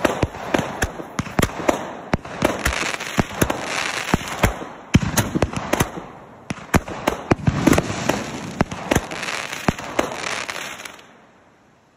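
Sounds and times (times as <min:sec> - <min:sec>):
firework bangs: 0:00.0 - 0:11.1.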